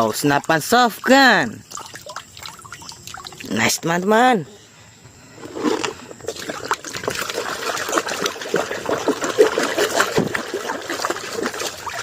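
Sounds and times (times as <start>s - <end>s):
water splashing and dribbling: 0.0s - 4.1s, 5.7s - 12.0s.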